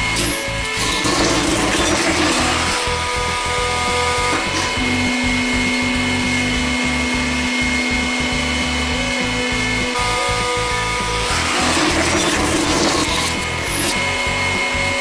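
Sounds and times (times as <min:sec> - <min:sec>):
hydraulic pump whine: 0:00.0 - 0:15.0
low motor hum: 0:00.0 - 0:15.0.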